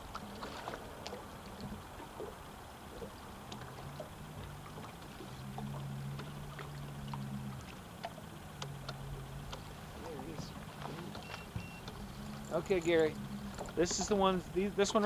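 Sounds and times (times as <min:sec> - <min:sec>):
boat motor humming: 0:00.0 - 0:15.0
water lapping against hull: 0:00.0 - 0:15.0.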